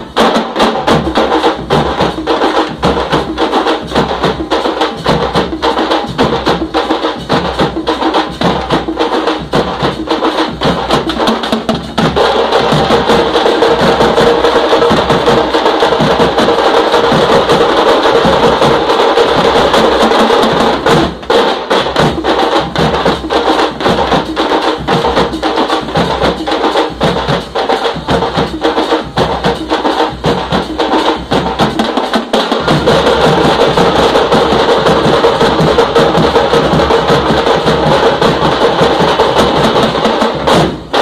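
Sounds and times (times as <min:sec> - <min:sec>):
frame drums beaten with sticks: 0:00.0 - 0:41.0.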